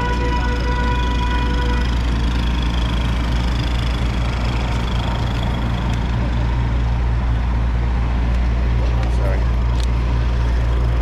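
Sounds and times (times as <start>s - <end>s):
street traffic: 0.0s - 11.0s
vehicle engine idling: 0.0s - 11.0s.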